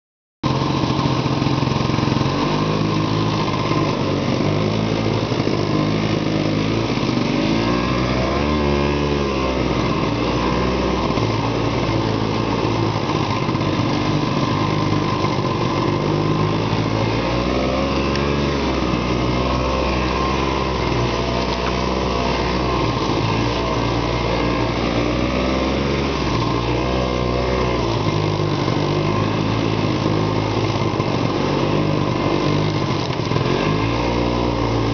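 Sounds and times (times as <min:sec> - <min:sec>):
snowmobile engine revving: 0:00.5 - 0:34.9.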